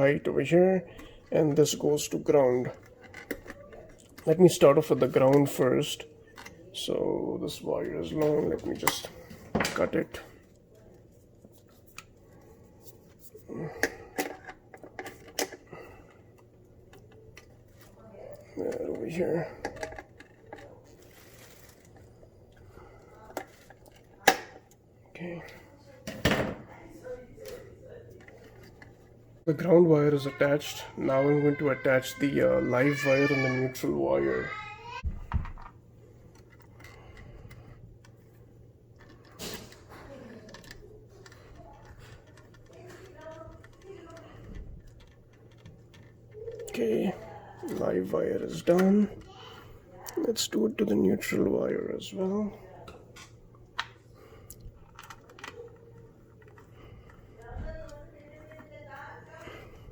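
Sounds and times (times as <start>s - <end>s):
wires clicking and rustling: 0.0s - 59.9s.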